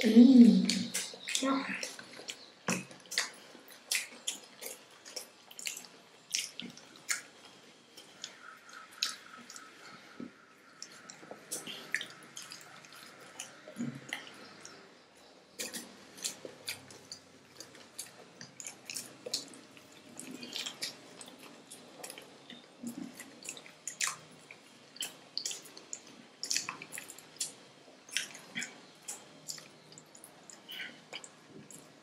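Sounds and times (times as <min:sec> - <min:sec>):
people chewing food: 0:00.0 - 0:32.0.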